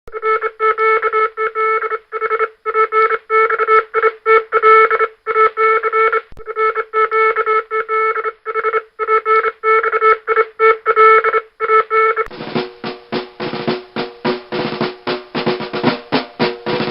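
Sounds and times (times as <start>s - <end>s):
morse code buzzy tone: 0.1s - 16.9s.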